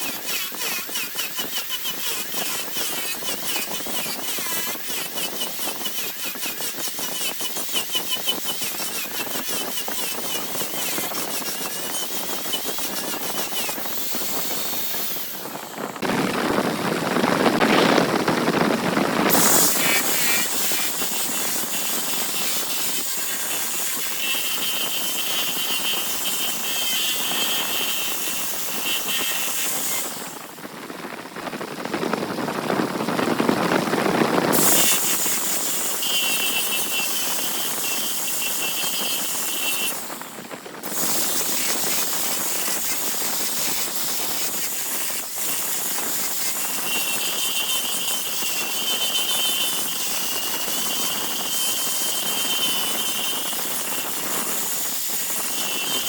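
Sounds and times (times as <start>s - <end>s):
lathe tool scraping wood: 0.0s - 16.6s, 19.2s - 30.4s, 34.5s - 56.0s.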